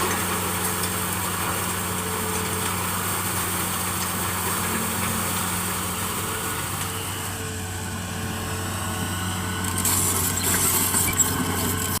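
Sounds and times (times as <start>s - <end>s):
machinery engine humming: 0.0s - 12.0s.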